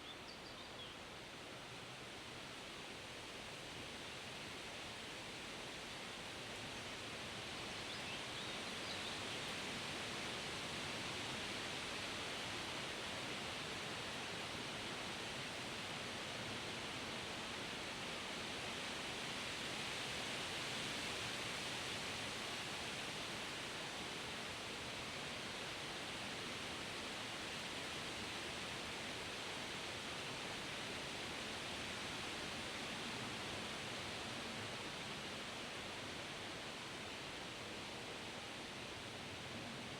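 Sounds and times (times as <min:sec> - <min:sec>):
wind rustling leaves: 0:00.0 - 0:39.9.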